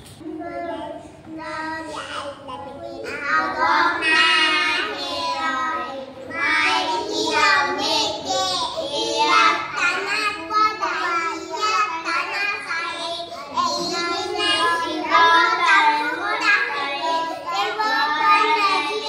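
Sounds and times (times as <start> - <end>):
children chanting in unison: 2.8 - 19.0.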